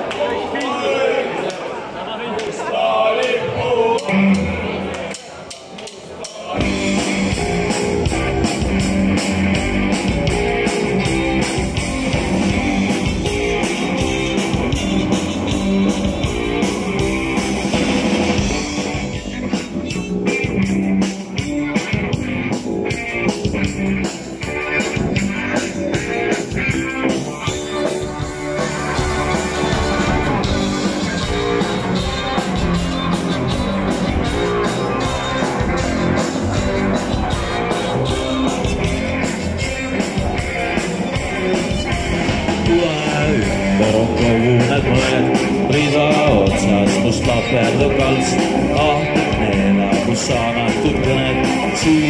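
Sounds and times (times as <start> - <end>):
drum kit: 4.0 - 52.0
electric guitar: 6.6 - 52.0.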